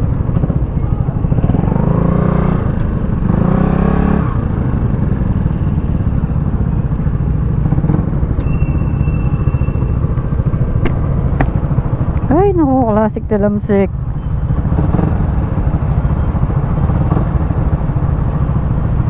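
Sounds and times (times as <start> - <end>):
motorcycle engine accelerating: 0.0 - 19.0
road and wind noise: 0.0 - 19.0.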